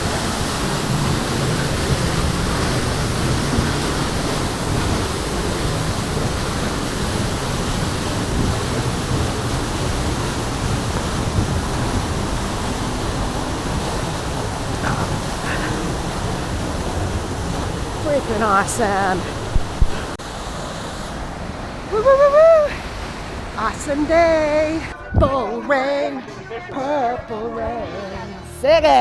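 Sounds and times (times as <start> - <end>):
waterfall rushing: 0.0 - 25.2.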